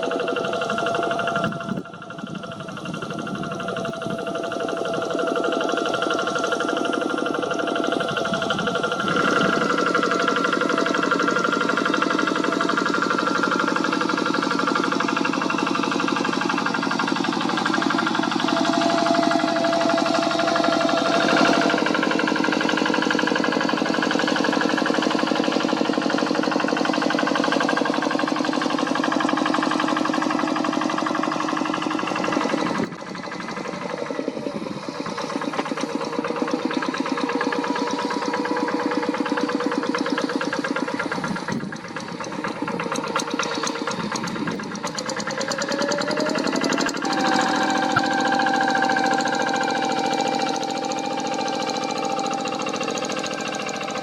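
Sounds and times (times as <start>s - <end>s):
diesel engine knocking: 0.0s - 54.0s.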